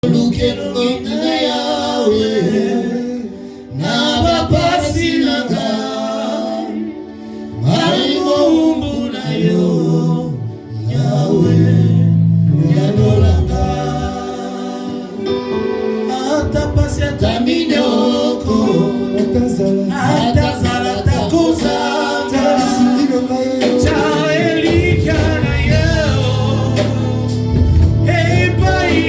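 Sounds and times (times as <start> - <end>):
gospel singing with backing: 0.0 - 29.0.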